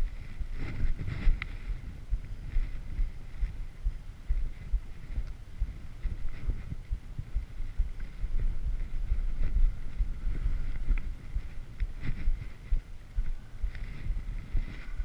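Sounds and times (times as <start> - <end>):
wind rumble: 0.0 - 15.0.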